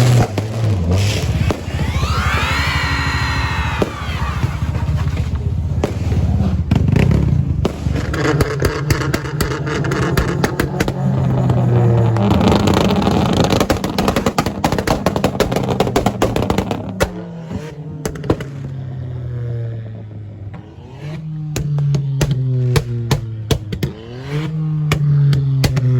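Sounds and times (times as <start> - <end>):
car engine revving: 0.0 - 25.9.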